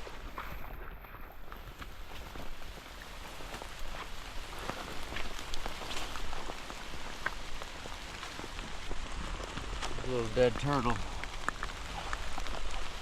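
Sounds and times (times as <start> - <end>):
raindrops ticking: 0.0 - 13.0
steady hiss of rain: 0.0 - 13.0.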